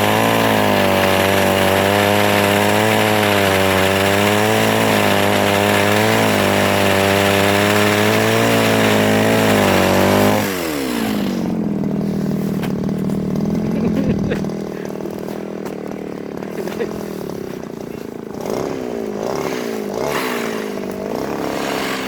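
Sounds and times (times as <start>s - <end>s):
mini chainsaw running: 0.0s - 22.0s.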